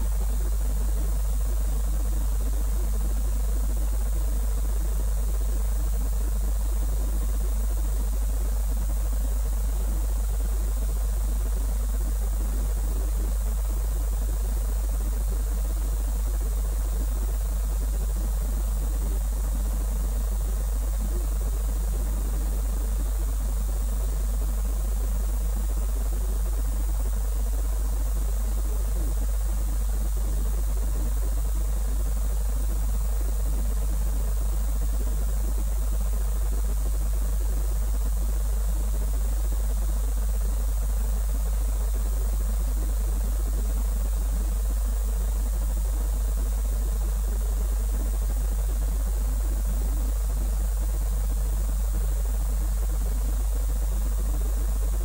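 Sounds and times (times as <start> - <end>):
constant hiss: 0.0 - 55.0
steady low hum: 0.0 - 55.0.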